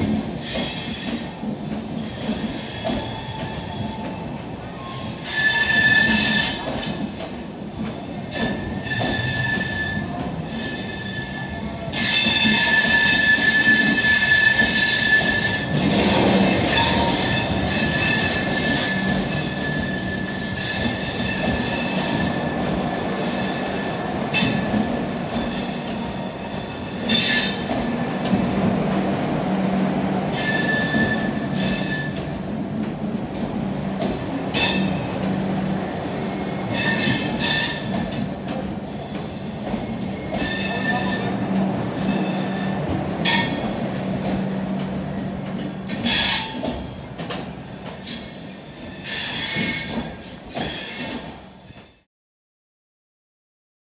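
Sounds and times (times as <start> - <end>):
train wheels squealing on rails: 0.0 - 28.6, 30.3 - 32.5, 33.6 - 52.1
low train rumble: 0.0 - 52.1.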